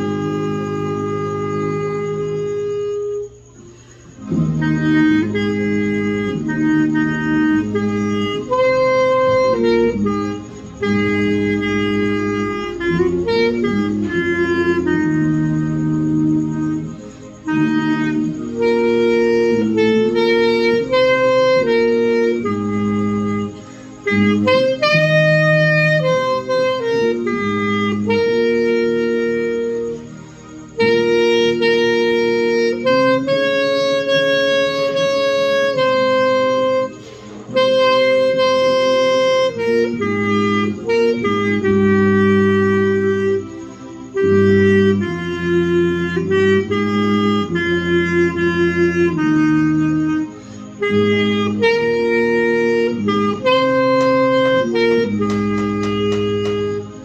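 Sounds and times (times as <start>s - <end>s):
clarinet melody: 0.0s - 57.0s
low brass: 0.0s - 57.0s.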